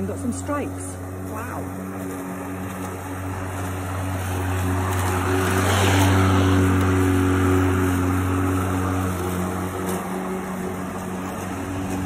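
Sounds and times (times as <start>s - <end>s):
electric lawnmower cutting grass: 0.0s - 12.0s.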